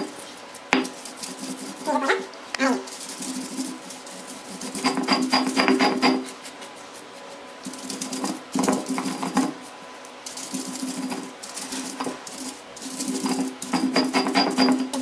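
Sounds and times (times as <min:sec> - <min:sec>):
stone roller scraping on stone: 0:00.0 - 0:15.0.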